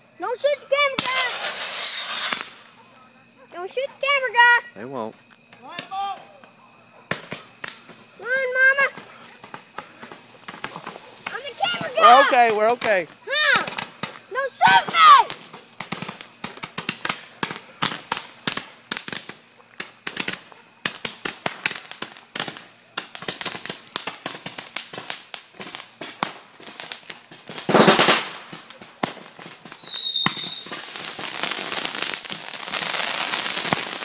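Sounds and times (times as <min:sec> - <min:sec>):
firework rushing hiss: 0:00.0 - 0:02.9, 0:03.6 - 0:34.0
firework crackling: 0:00.0 - 0:34.0
firework whistle: 0:00.8 - 0:02.9, 0:07.0 - 0:19.4, 0:20.0 - 0:34.0
fireworks popping and banging: 0:00.8 - 0:02.9, 0:05.1 - 0:34.0.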